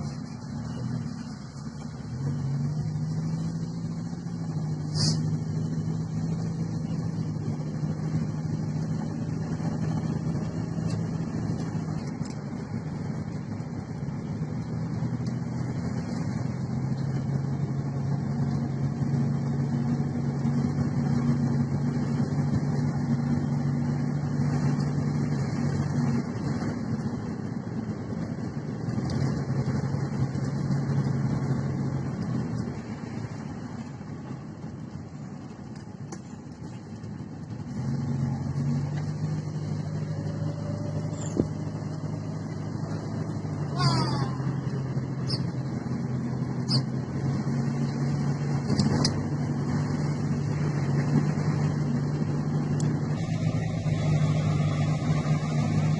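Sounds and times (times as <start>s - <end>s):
car engine hum: 0.0s - 55.9s
road noise: 0.0s - 55.9s.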